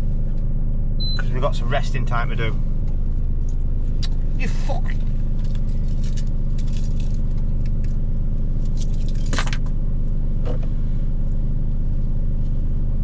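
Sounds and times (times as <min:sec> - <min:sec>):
truck engine idling: 0:00.0 - 0:12.1.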